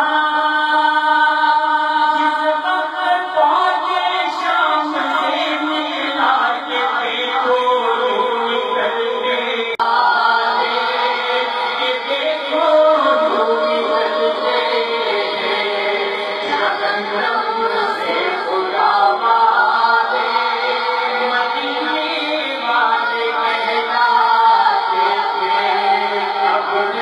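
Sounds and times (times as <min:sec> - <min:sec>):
men singing over loudspeakers: 0:00.0 - 0:27.0.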